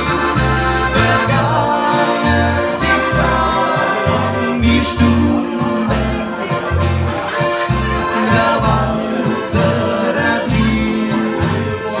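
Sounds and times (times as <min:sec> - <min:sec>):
live band playing a waltz: 0:00.0 - 0:12.0.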